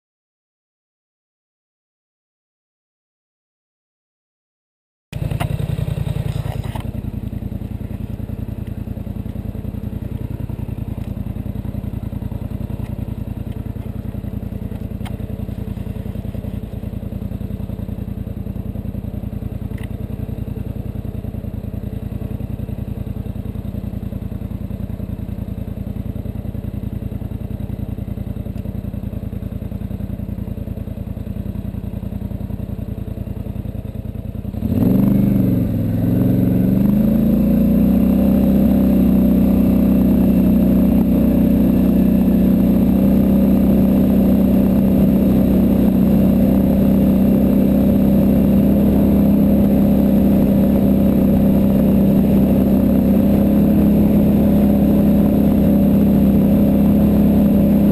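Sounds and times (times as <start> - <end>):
atv engine idling: 5.1 - 57.9.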